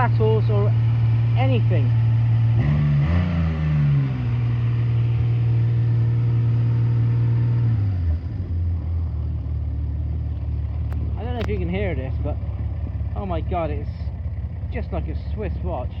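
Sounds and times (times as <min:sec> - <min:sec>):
motorcycle engine idling: 0:00.0 - 0:02.8, 0:03.5 - 0:16.0.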